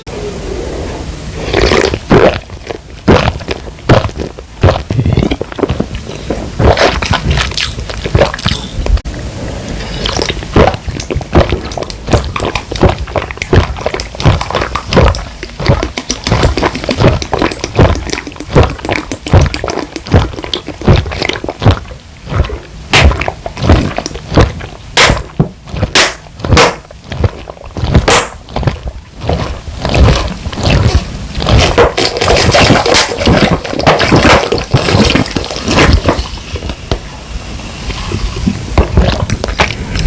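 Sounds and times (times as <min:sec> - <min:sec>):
rapid gulping of soda: 0:01.3 - 0:09.0, 0:09.8 - 0:36.8, 0:38.2 - 0:40.0
liquid sloshing in bottle: 0:01.4 - 0:09.0, 0:09.8 - 0:36.9, 0:38.4 - 0:40.0.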